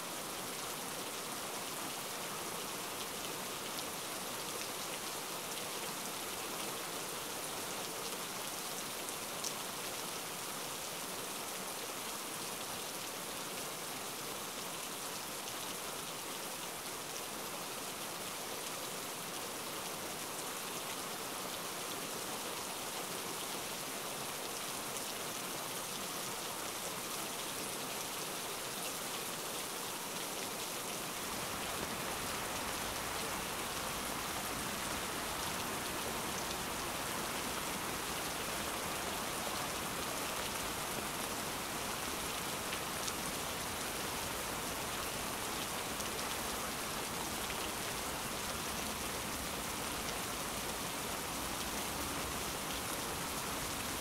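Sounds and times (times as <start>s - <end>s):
rain on bushes and paving: 0.0s - 54.0s.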